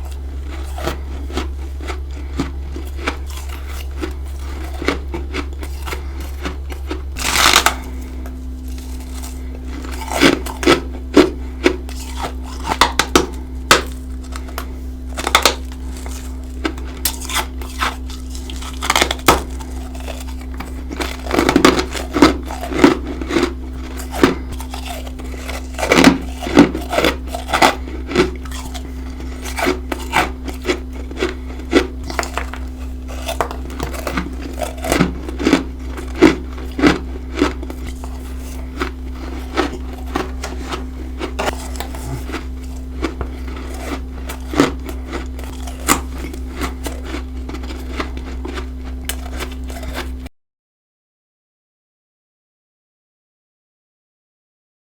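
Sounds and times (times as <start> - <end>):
chewing crunchy frost: 0.0 - 50.3
low hum: 0.0 - 50.3.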